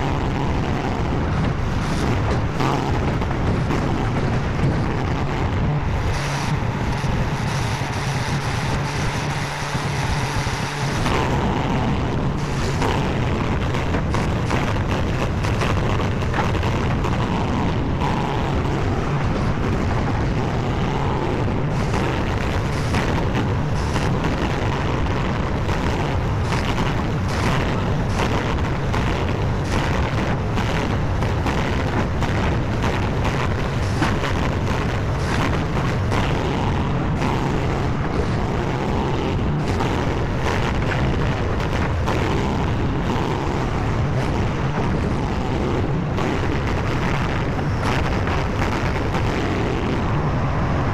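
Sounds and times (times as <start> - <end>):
skid steer engine running: 0.0 - 50.9.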